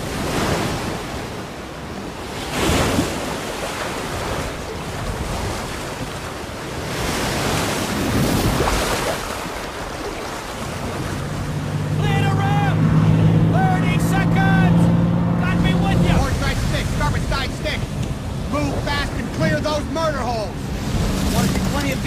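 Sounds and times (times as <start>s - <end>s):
ocean surf: 0.0s - 22.0s
wind: 0.0s - 22.0s.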